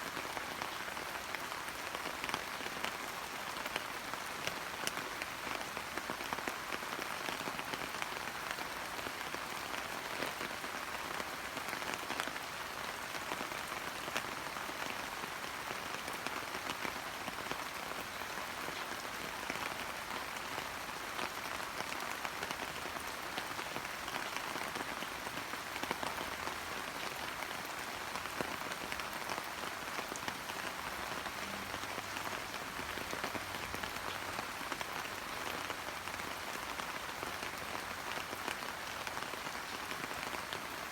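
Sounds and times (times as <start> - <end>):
rain ticking on leaves: 0.0 - 40.9.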